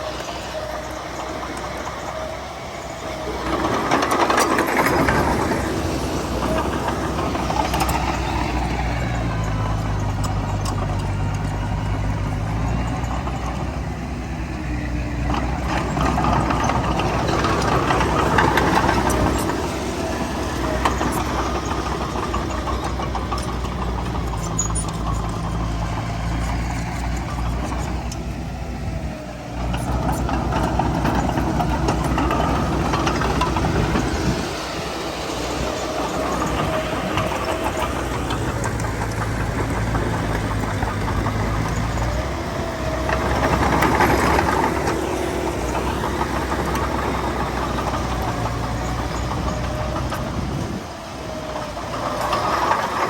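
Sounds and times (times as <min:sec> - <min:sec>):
heavy diesel engine rumbling: 0:00.0 - 0:53.0.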